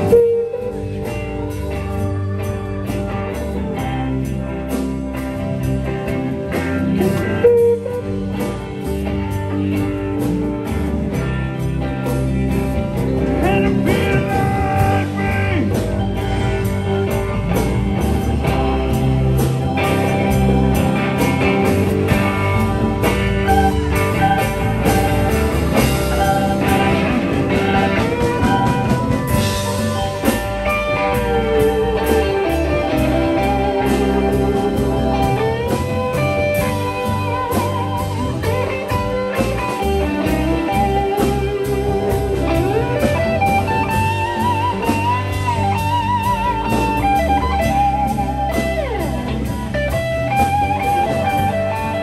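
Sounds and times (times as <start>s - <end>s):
bass guitar: 0.0s - 52.0s
drum kit: 0.0s - 52.0s
lead guitar solo: 0.0s - 52.0s.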